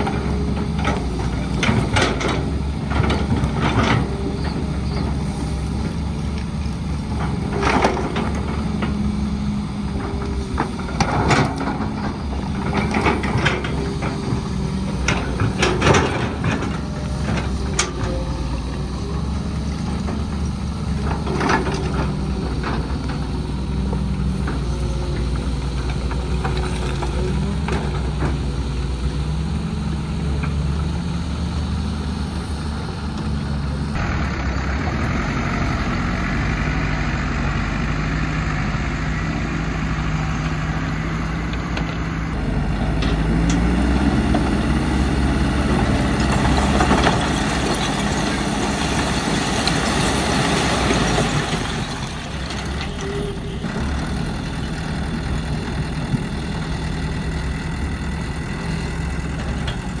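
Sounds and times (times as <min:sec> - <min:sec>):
heavy diesel engines running: 0:00.0 - 1:00.0.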